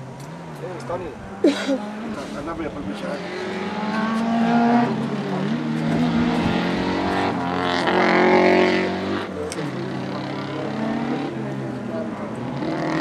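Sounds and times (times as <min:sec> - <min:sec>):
race car engine revving: 0:00.2 - 0:13.0.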